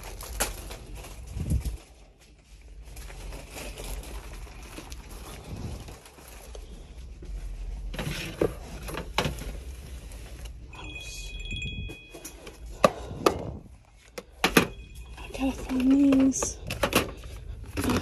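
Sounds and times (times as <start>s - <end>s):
plastic bins rustling: 0.0s - 10.9s, 11.6s - 18.0s.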